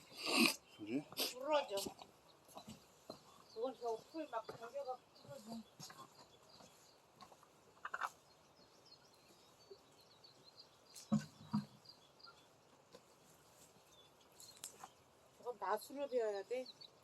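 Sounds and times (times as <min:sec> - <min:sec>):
small birds chirping faintly: 0:00.0 - 0:17.0.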